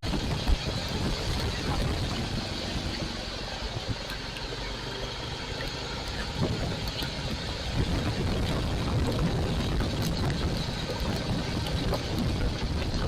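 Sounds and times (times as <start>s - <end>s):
motorcycle engine running: 0.0s - 13.0s
steady rushing noise: 0.0s - 13.0s.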